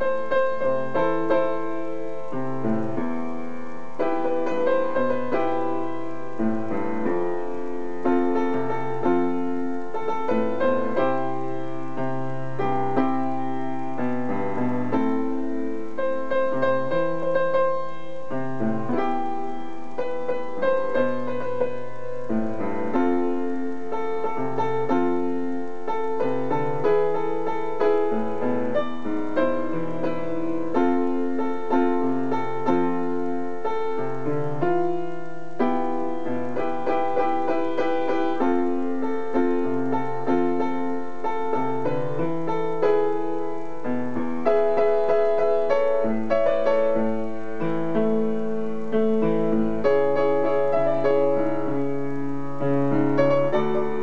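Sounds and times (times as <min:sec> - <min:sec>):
piano playing a ballad: 0:00.0 - 0:54.0.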